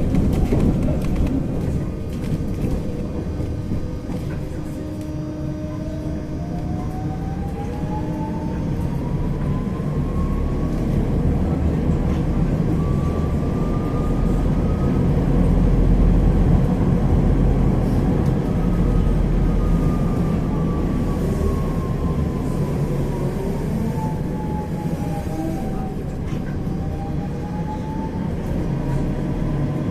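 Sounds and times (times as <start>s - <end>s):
tram rumbling on tracks: 0.0s - 29.9s
tram traction drive whine: 0.0s - 29.9s.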